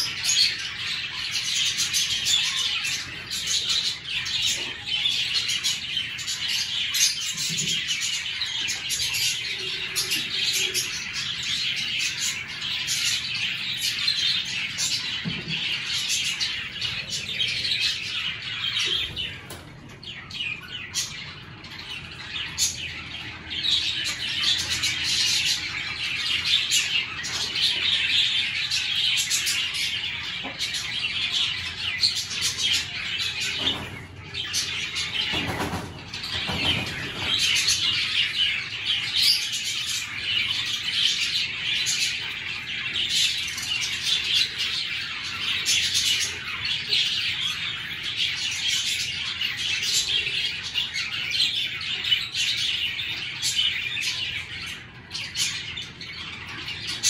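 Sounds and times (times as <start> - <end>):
birds chirping and chattering: 0.0 - 57.0.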